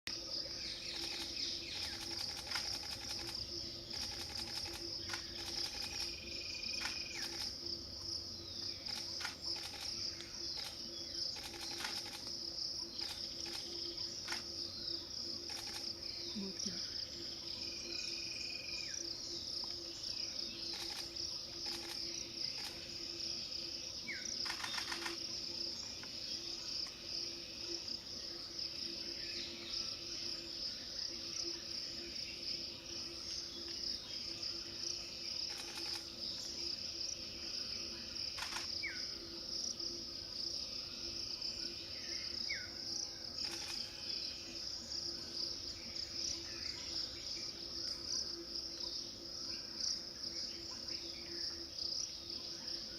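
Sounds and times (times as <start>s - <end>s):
insects droning: 0.1s - 52.9s.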